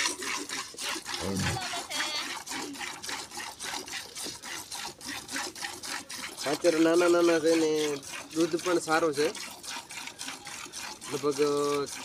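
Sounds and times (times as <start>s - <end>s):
milk squirting into metal bucket: 0.0s - 12.0s.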